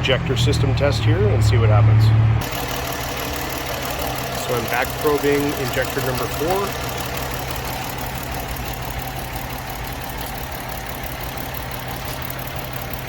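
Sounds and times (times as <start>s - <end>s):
engine idling with misfire: 0.0s - 13.0s.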